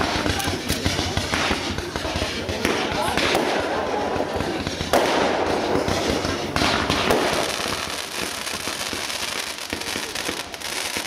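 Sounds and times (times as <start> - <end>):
fireworks bursts and crackling: 0.0 - 11.0.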